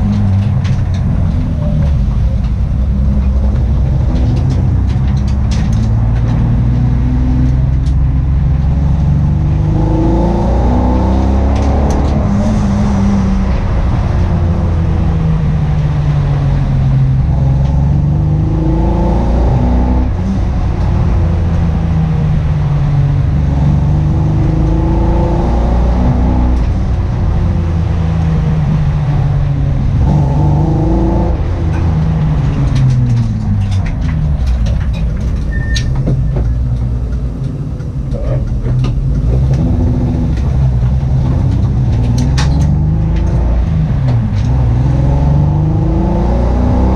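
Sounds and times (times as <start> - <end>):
misfiring car engine under load: 0.0 - 46.9.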